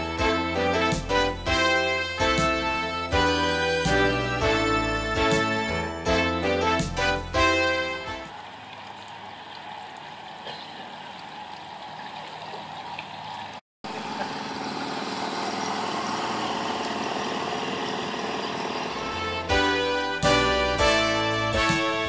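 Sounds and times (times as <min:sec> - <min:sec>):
outboard motor running: 0:00.0 - 0:21.8.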